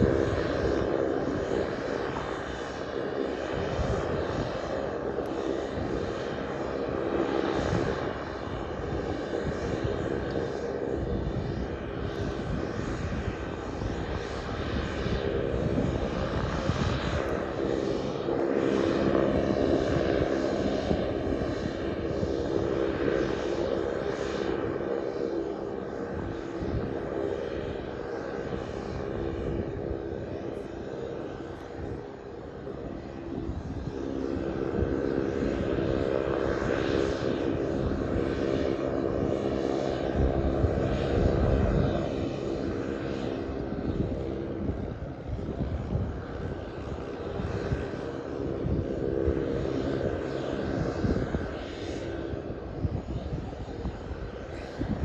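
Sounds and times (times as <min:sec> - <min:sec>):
turboprop engine droning: 0:00.0 - 0:55.0.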